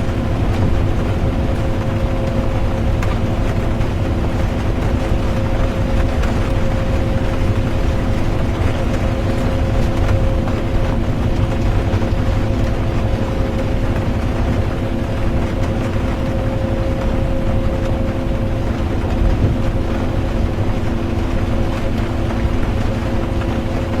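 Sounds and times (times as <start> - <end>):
rain on a bus: 0.0 - 24.0.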